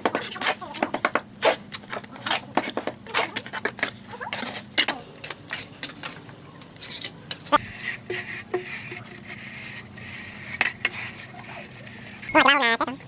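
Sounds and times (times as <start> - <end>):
plastering tools scraping cement: 0.0 - 13.0.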